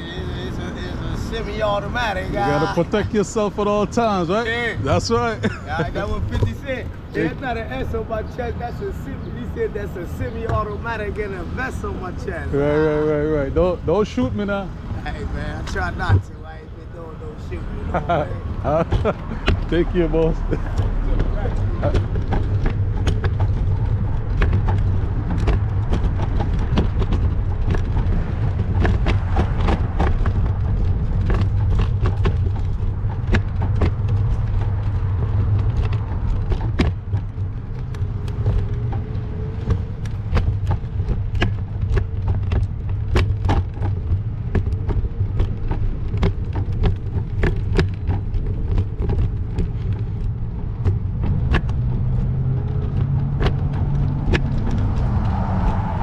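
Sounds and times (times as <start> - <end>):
bike and camera rattling: 0.0 - 56.0
wind buffeting microphone: 0.0 - 56.0.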